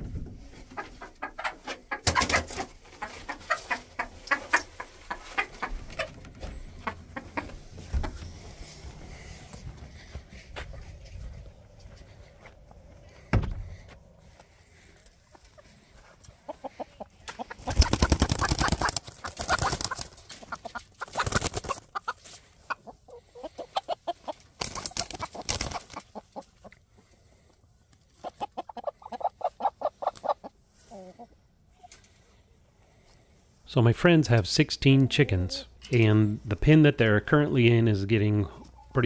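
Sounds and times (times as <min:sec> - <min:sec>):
chickens clucking and squawking: 0:00.0 - 0:34.2.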